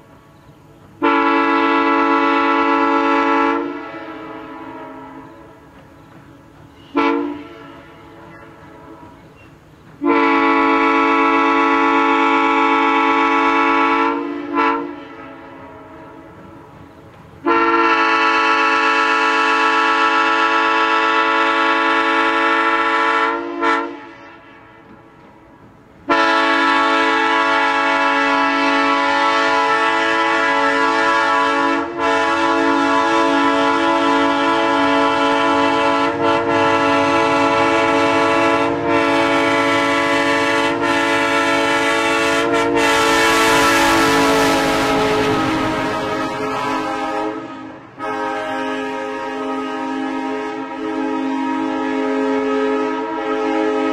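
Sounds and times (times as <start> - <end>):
locomotive engine rumble: 0.0 - 23.2, 23.9 - 50.8
locomotive air horn blasts: 1.0 - 5.7, 6.6 - 9.3, 10.0 - 16.7, 17.4 - 24.9, 26.0 - 53.9.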